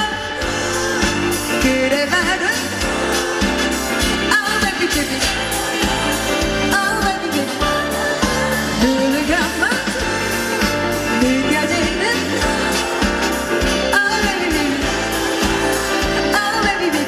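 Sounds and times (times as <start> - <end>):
amplified backing music with beat: 0.0 - 17.0
woman singing into microphone: 0.0 - 17.0.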